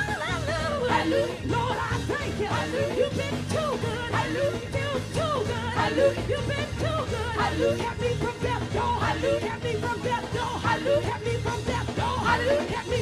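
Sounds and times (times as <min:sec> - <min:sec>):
drums: 0:00.0 - 0:13.0
electric bass: 0:00.0 - 0:13.0
women singing gospel: 0:00.0 - 0:13.0.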